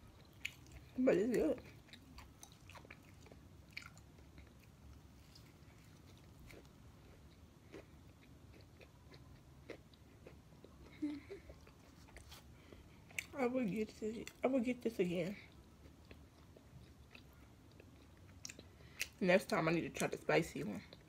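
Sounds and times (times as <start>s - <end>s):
faint chewing: 0.0s - 19.2s.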